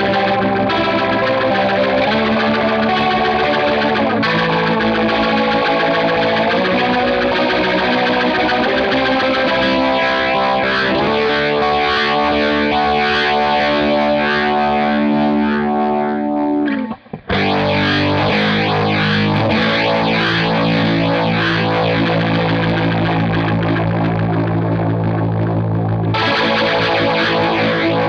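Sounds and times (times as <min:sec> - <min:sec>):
overdriven electric guitar chords: 0:00.0 - 0:28.0.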